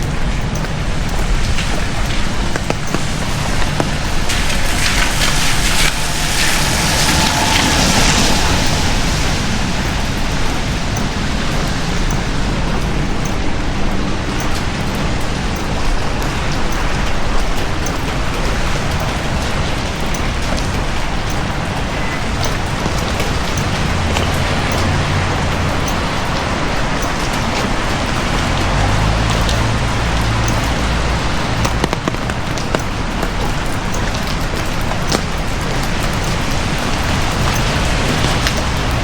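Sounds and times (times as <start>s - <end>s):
heavy rain falling: 0.0s - 39.0s
raindrops ticking: 0.0s - 39.0s.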